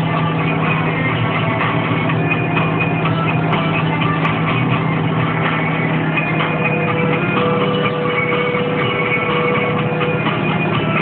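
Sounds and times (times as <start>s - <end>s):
music playing: 0.0s - 11.0s
tractor engine running: 0.0s - 11.0s.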